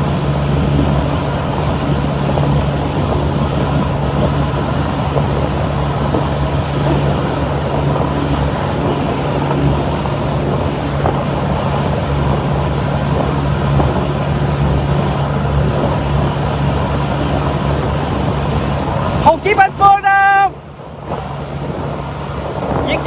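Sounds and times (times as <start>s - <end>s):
motorboat engine droning: 0.0s - 23.0s
wind rushing over microphone: 0.0s - 23.0s.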